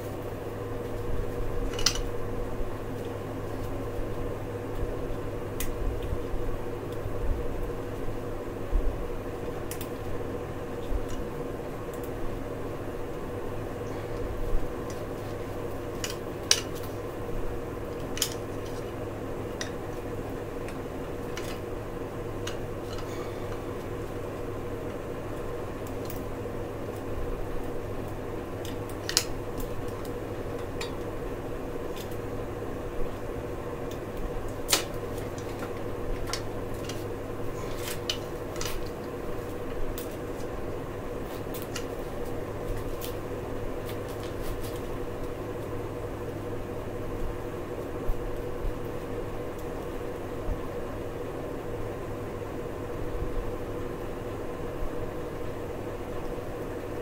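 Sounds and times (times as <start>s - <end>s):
steady mechanical hum: 0.0s - 57.0s.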